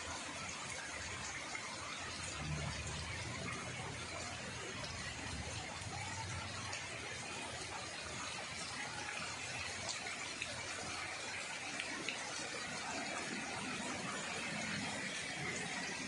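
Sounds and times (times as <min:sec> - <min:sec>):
heavy rain and floodwater hiss: 0:00.0 - 0:16.0.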